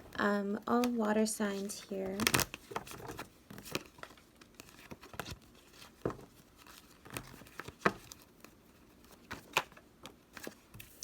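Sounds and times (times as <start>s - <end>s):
cards being shuffled: 0.8s - 11.0s.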